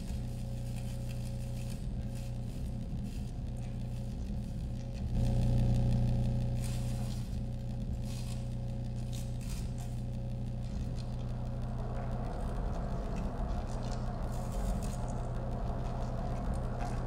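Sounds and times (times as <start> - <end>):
low electronic drone: 0.0 - 17.0.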